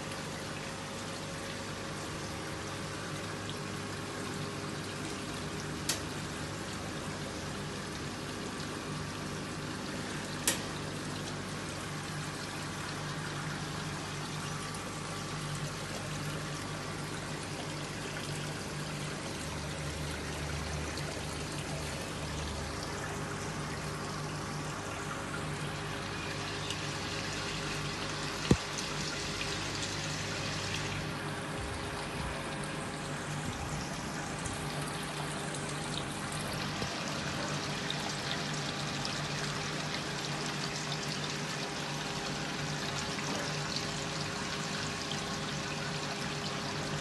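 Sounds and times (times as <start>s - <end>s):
low steady hum: 0.0s - 47.0s
water trickling and splashing: 0.0s - 47.0s.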